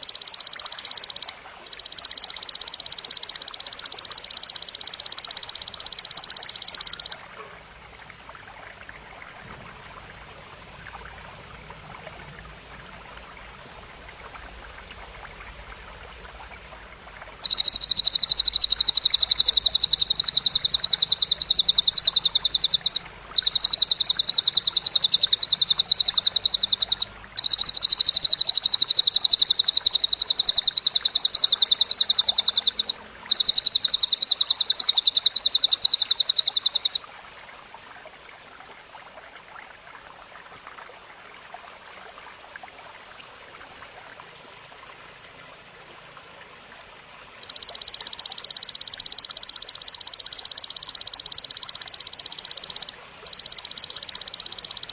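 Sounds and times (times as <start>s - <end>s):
faint background hiss: 0.0s - 54.9s.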